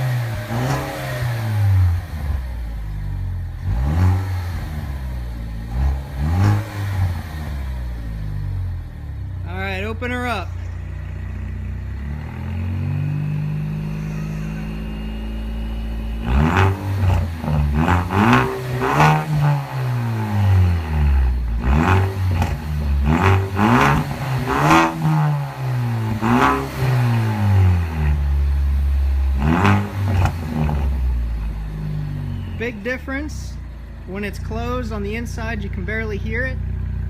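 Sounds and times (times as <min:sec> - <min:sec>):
car exhaust idling and revving: 0:00.0 - 0:37.0.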